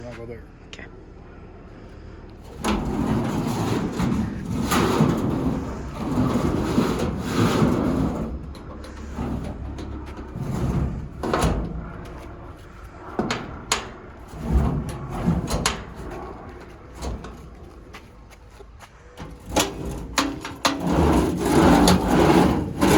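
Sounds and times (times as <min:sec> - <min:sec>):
heavy drawers rolling open and shut: 0:02.5 - 0:17.9, 0:19.2 - 0:22.9.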